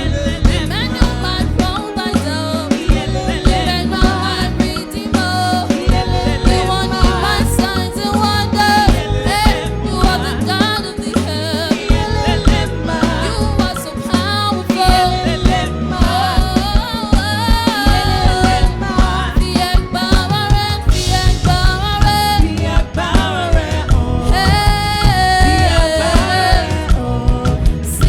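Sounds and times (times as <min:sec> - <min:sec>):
drum kit and band: 0:00.0 - 0:28.0.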